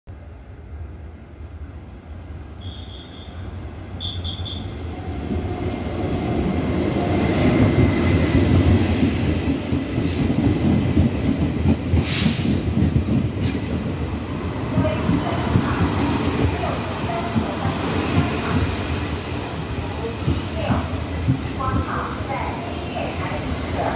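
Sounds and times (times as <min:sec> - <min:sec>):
train wheels rumbling on rail: 0:00.5 - 0:23.9.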